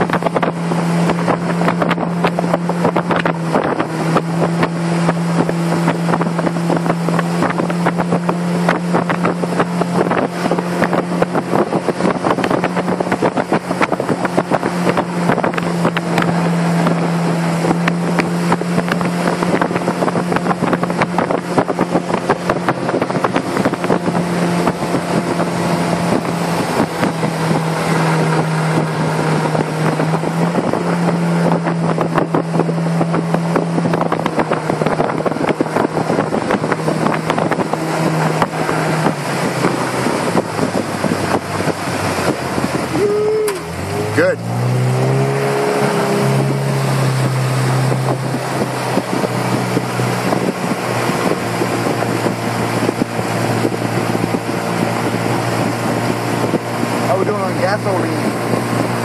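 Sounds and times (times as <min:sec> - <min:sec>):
boat motor droning: 0:00.0 - 0:59.0.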